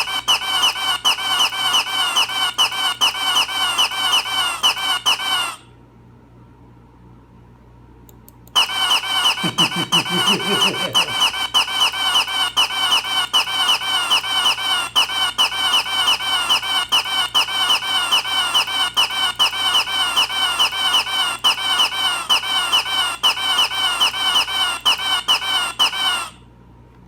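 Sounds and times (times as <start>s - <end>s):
high squeaky call: 0.0s - 5.6s, 8.6s - 26.4s.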